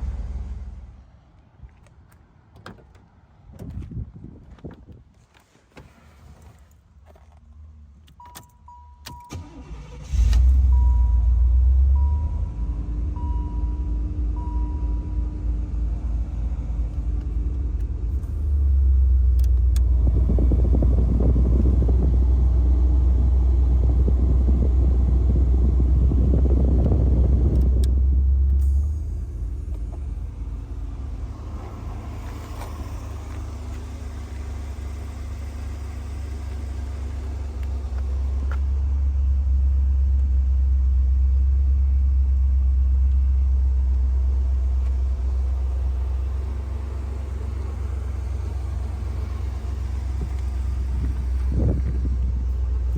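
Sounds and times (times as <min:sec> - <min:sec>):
car engine running: 0:09.4 - 0:52.9.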